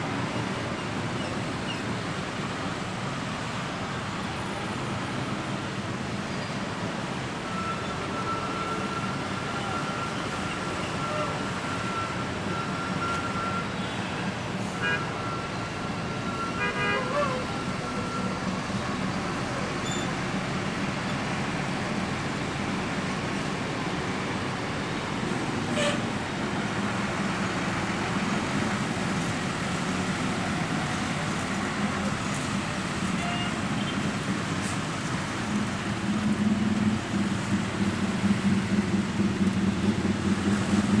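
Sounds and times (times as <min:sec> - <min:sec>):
traffic jam vehicles: 0:00.0 - 0:41.0.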